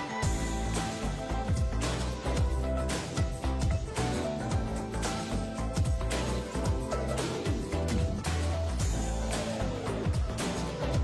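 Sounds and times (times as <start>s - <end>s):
music with deep bass and kick drum: 0.0s - 11.0s.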